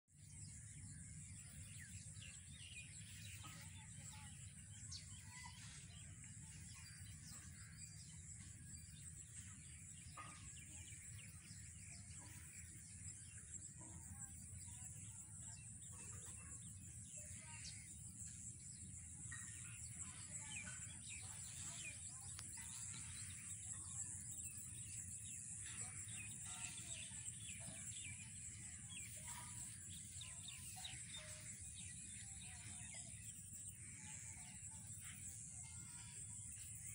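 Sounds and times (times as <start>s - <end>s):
bird chirps: 0.1s - 36.9s.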